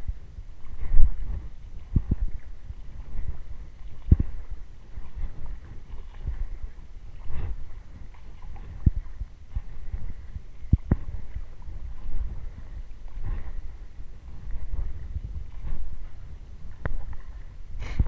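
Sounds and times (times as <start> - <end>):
footsteps wading through water: 0.0 - 18.0.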